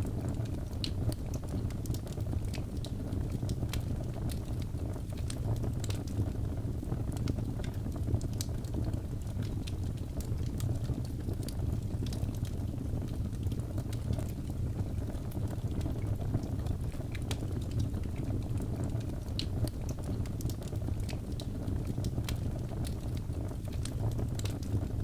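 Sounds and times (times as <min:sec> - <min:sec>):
burning wood crackling and popping: 0:00.0 - 0:25.0
fire rumbling: 0:00.0 - 0:25.0.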